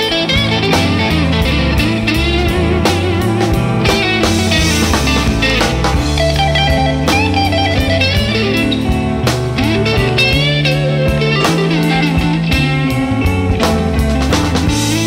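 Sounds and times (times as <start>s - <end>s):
bass notes: 0.0s - 15.0s
guitar melody with sliding notes: 0.0s - 15.0s
regular beat: 0.0s - 15.0s.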